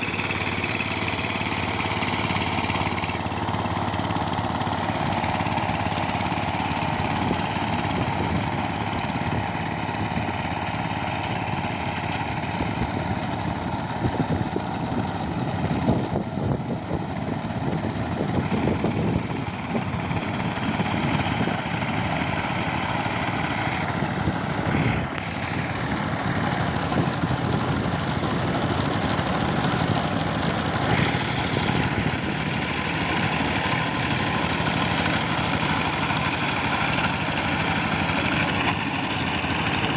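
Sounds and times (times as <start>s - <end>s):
tiller engine chugging: 0.0s - 39.9s.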